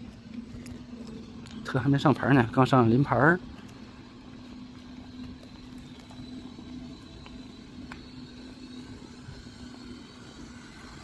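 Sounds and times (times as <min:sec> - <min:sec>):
electric car humming: 0:00.0 - 0:11.0.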